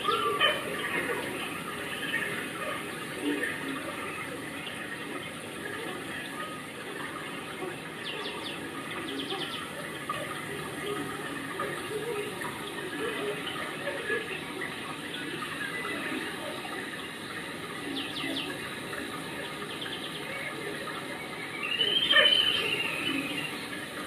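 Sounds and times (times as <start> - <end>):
rain falling: 0.0 - 24.0
water running: 0.0 - 24.0.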